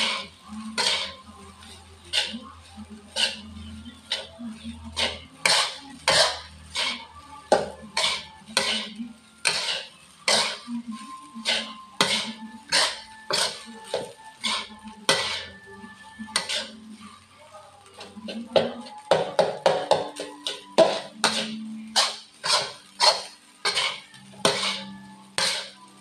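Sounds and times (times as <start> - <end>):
spatula scraping a wok: 0.0 - 26.0.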